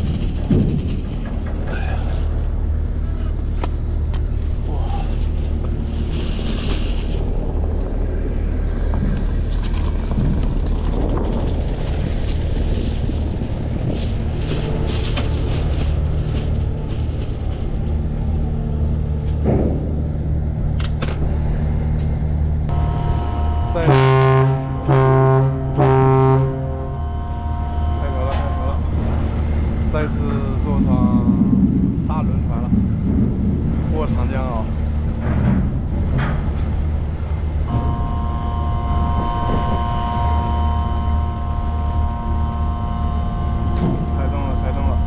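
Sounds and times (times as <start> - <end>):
deep horn blasts: 0.0 - 45.0
ferry engine drone: 0.0 - 45.0.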